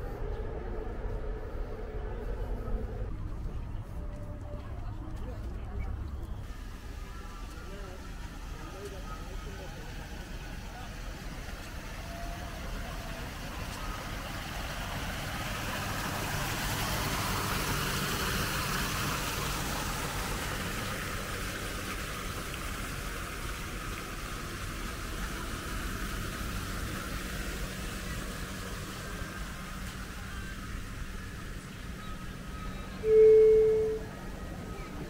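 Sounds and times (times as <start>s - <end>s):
broad wash of noise: 0.0s - 4.4s, 6.4s - 35.0s
engine humming: 0.0s - 35.0s.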